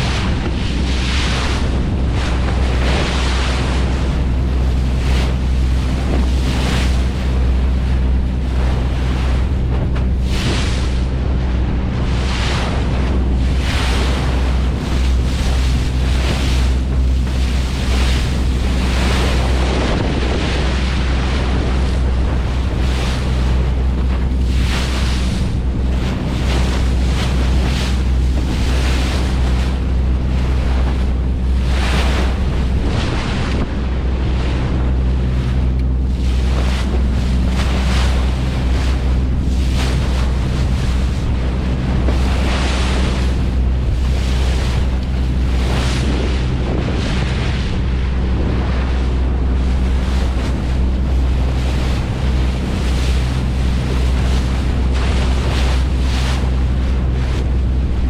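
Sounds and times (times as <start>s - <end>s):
boat engine humming: 0.0s - 58.0s
sea noise: 0.0s - 58.0s
wind on microphone: 0.0s - 58.0s.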